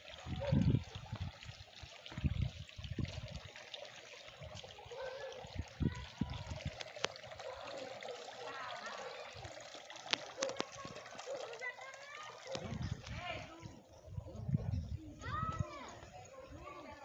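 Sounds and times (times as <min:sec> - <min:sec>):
fountain water trickling: 0:00.0 - 0:17.0.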